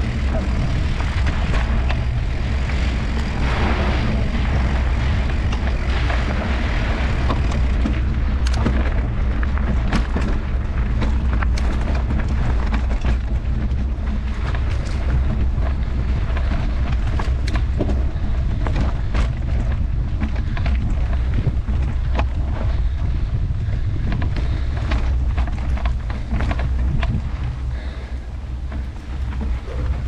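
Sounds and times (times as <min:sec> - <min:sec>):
bike rattling clicks and knocks: 0:00.0 - 0:30.0
tyres rolling on dirt: 0:00.0 - 0:30.0
wind buffeting microphone: 0:00.0 - 0:30.0.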